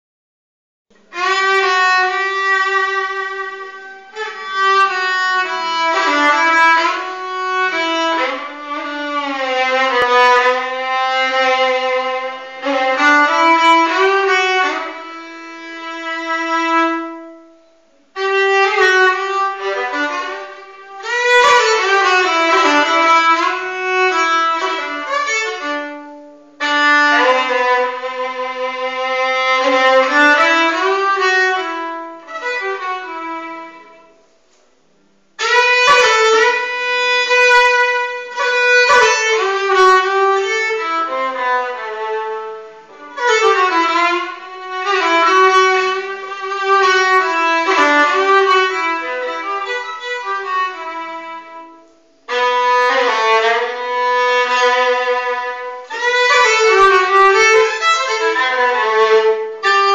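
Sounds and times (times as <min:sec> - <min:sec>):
solo violin melody: 0:01.0 - 0:34.4, 0:35.3 - 0:59.9.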